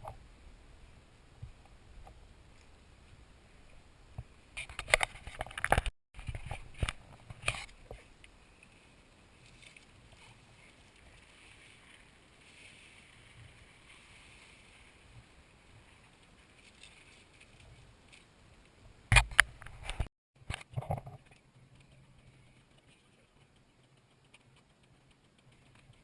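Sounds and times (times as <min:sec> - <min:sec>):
faint background noise: 0:00.0 - 0:26.0.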